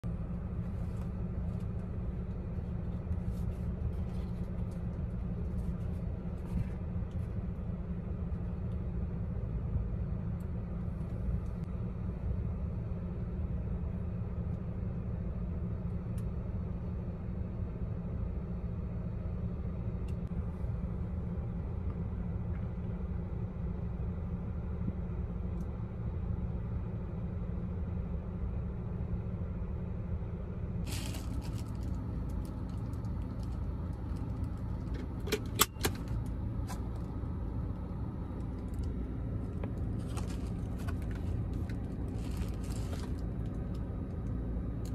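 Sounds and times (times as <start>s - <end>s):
car cabin hum: 0.0s - 44.9s.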